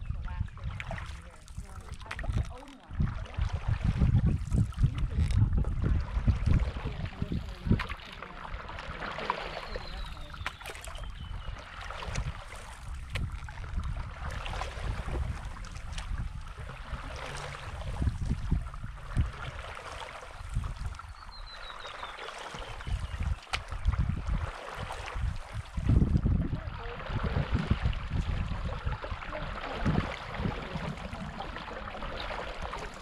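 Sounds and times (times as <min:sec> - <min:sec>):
paddle strokes in water: 0:00.0 - 0:33.0
water lapping against board: 0:00.0 - 0:33.0
wind on microphone: 0:00.0 - 0:33.0
small splashes: 0:00.3 - 0:33.0.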